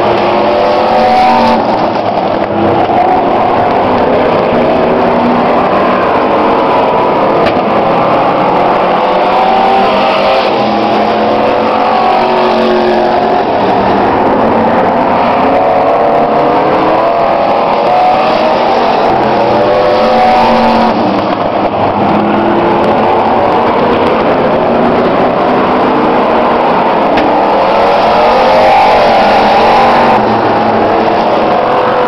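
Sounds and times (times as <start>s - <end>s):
racing truck engines revving: 0.0s - 32.0s.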